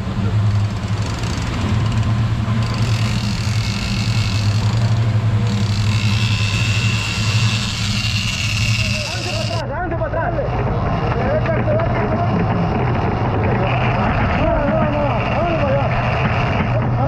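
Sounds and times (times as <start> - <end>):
high steady whine: 0.0 - 16.8
outboard motors droning: 0.0 - 17.0.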